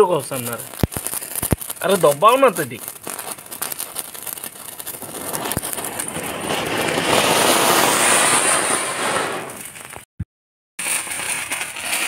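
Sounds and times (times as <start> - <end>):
firework fountain hissing: 0.0 - 10.0.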